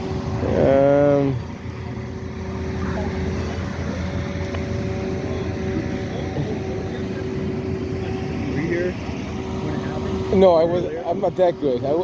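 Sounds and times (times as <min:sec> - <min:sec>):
steady humming tone: 0:00.0 - 0:12.0
vehicle engines idling: 0:00.0 - 0:12.0.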